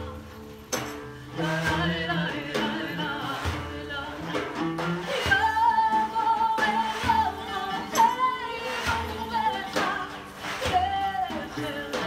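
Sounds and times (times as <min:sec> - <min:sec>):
frame drum beat: 0:00.0 - 0:12.0
plucked strings: 0:00.0 - 0:12.0
woman singing: 0:00.0 - 0:12.0.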